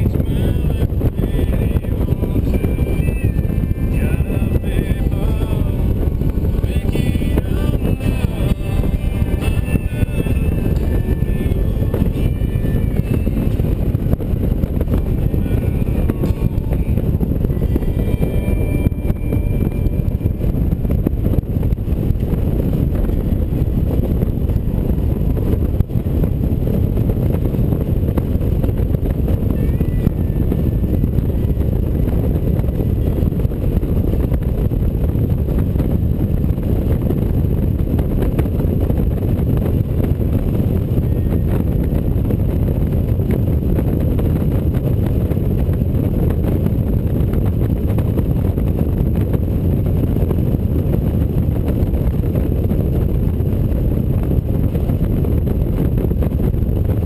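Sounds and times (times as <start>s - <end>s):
motorcycle engine rumble: 0.0s - 57.0s
tyres and wind noise: 0.0s - 57.0s.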